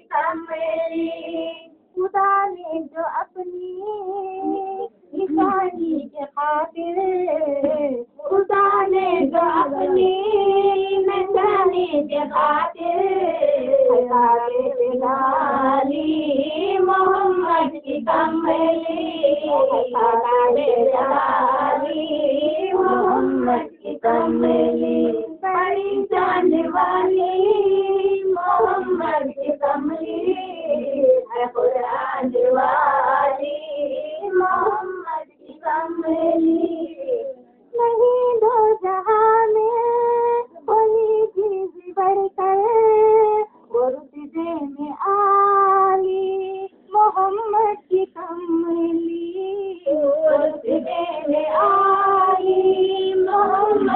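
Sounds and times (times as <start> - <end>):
person singing devotional song: 0.0 - 53.9.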